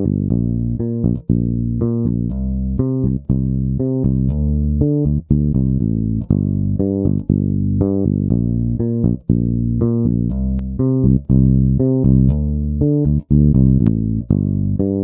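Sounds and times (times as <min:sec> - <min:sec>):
electric bass guitar plucking: 0:00.0 - 0:15.0.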